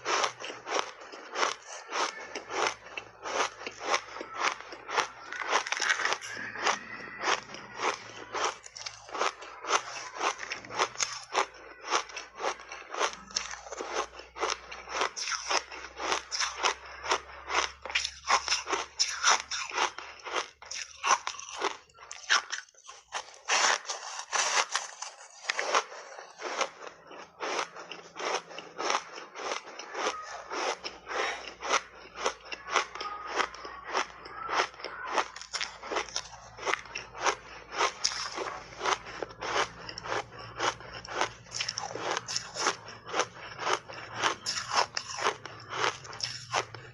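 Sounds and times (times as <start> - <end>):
ice crunching being chewed: 0.0 - 46.9.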